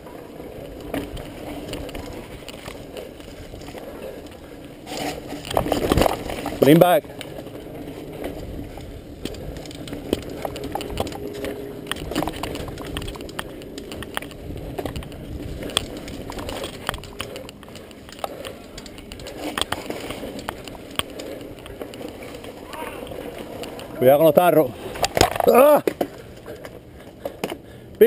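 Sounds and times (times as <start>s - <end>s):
bike rattling over bumps: 0.0s - 28.0s
bike tyres rolling on dirt: 0.0s - 28.0s.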